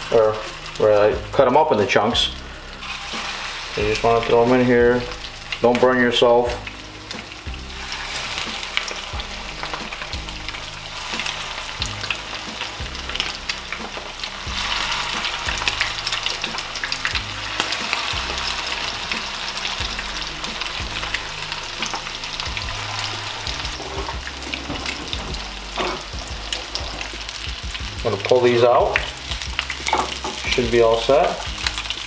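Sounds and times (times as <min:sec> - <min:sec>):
fish sizzling and crackling in oil: 0:00.0 - 0:32.0.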